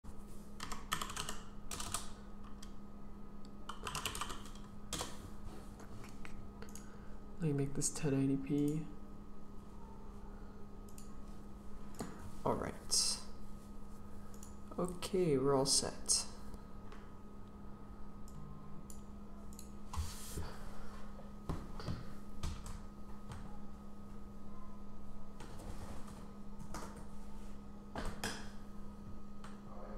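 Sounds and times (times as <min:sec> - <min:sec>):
faint steady hum: 0:00.1 - 0:29.9.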